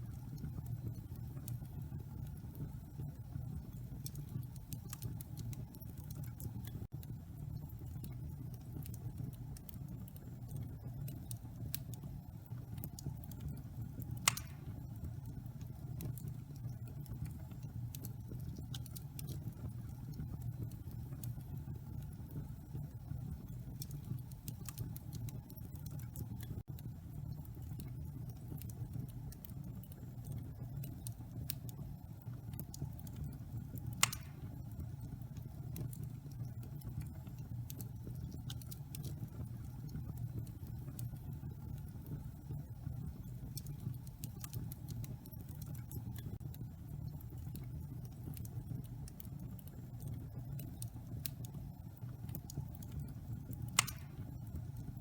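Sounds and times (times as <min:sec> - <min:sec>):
fire crackling in fireplace: 0:00.0 - 0:55.0.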